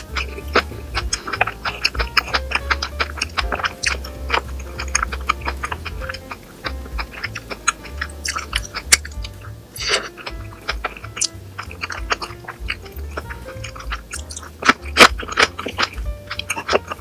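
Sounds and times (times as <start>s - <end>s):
background music with bass: 0.0s - 17.0s
chewing and crunching: 0.0s - 17.0s.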